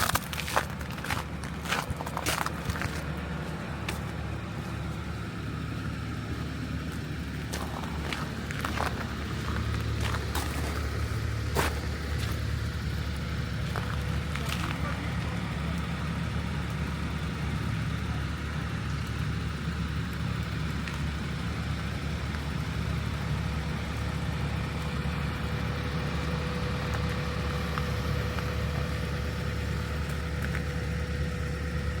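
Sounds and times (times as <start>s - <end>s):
vehicle engines rumbling: 0.0s - 32.0s.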